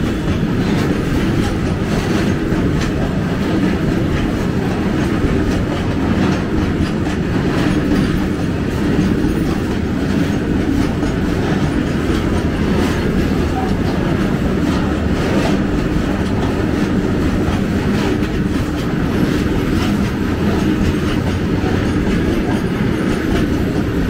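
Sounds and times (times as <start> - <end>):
freight train wheels clacking: 0.0 - 24.0.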